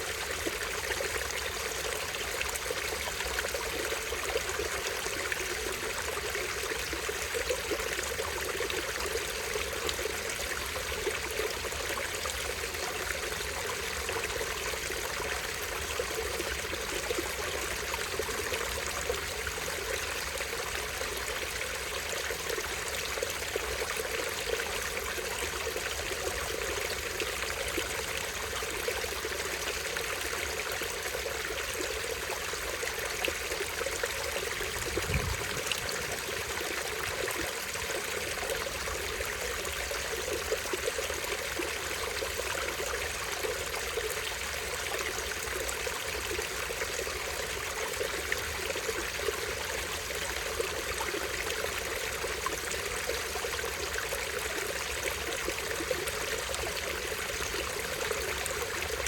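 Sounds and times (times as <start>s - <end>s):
stream over small waterfall: 0.0s - 59.0s.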